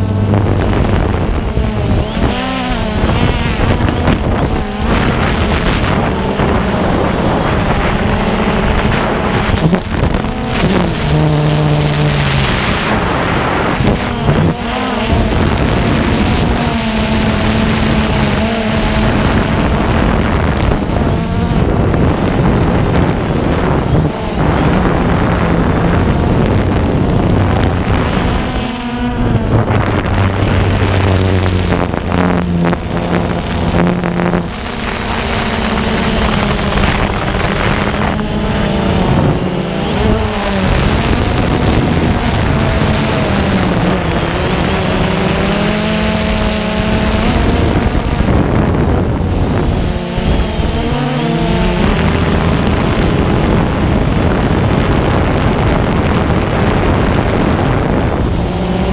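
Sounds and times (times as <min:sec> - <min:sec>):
drone motors whining: 0:00.0 - 0:58.9.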